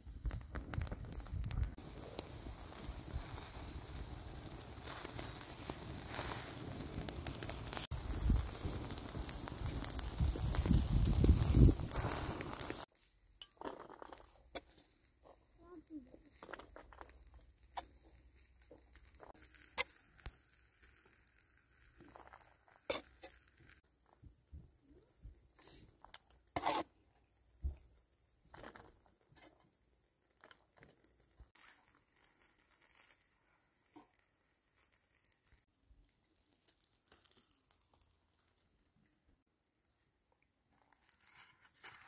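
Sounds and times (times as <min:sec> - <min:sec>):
light hiss: 0:00.0 - 0:13.3, 0:13.9 - 0:39.1.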